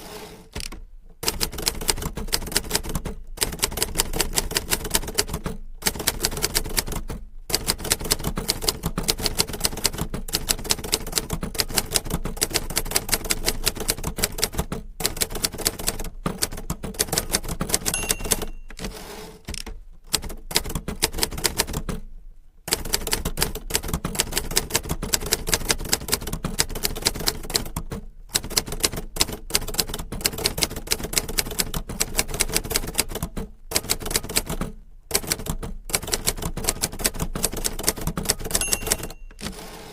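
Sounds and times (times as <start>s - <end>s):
typewriter keys striking: 0.6s - 22.0s, 22.7s - 39.9s.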